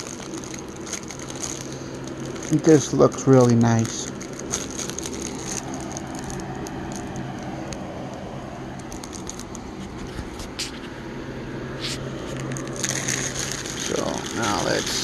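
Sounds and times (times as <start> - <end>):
plastic wrap crinkling: 0.0 - 10.9, 11.8 - 15.0
steady low hum: 0.0 - 15.0.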